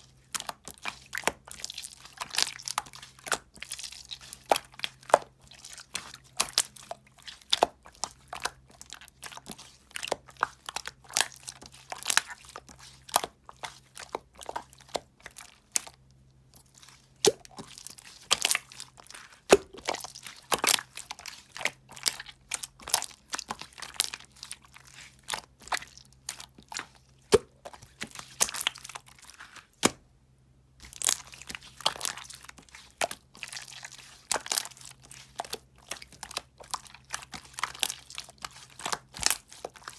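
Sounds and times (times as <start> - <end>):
close-up crunching and crackling: 0.0 - 30.0, 30.8 - 39.9.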